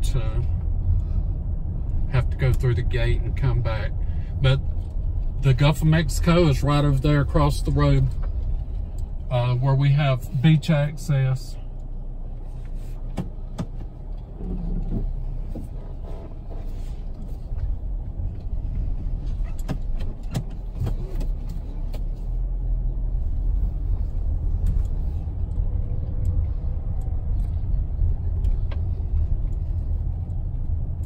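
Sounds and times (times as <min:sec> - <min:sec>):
car engine and tyre rumble: 0:00.0 - 0:31.0.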